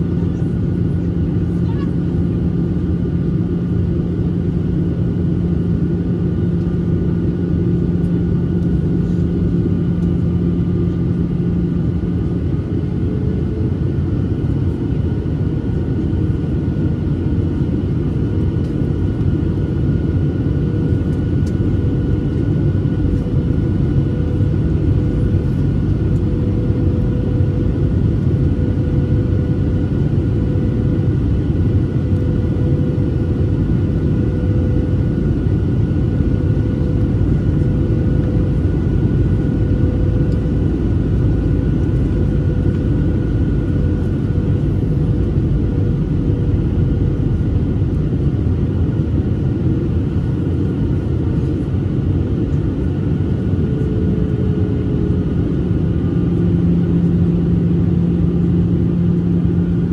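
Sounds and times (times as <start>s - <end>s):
airplane cabin rumble: 0.0s - 59.9s
constant hum: 0.0s - 59.9s.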